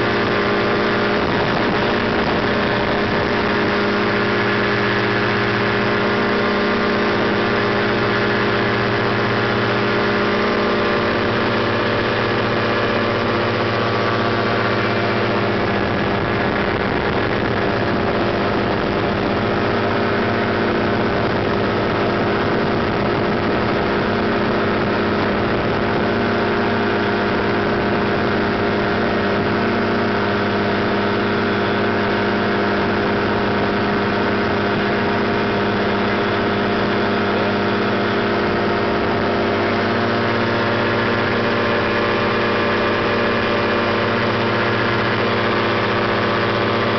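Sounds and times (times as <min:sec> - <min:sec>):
ultralight aircraft engine droning: 0:00.0 - 0:46.9.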